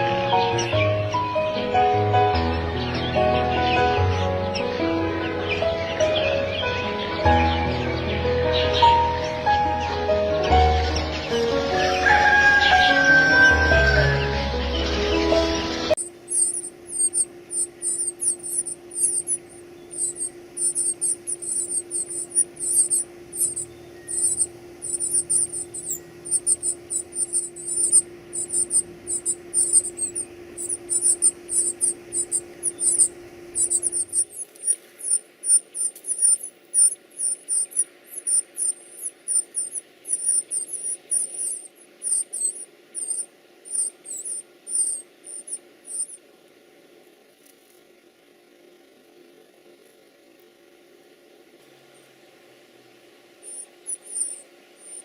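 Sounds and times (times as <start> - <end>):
nestling birds begging calls: 0.0 - 46.2, 53.4 - 55.0.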